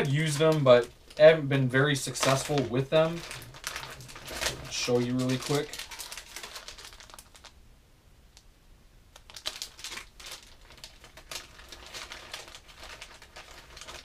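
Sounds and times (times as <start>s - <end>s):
plastic bags crinkling: 0.0s - 7.6s, 9.2s - 14.0s.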